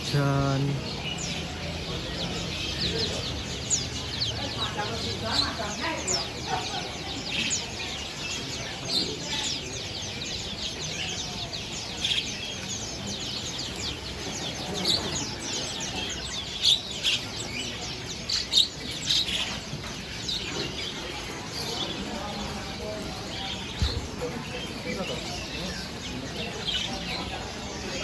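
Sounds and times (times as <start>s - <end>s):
caged songbirds chirping: 0.0s - 28.0s.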